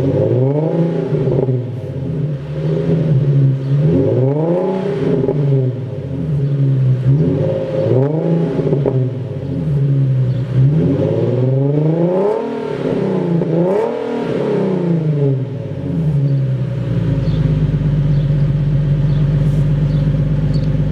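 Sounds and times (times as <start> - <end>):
car engine revving and idling: 0.0 - 20.9.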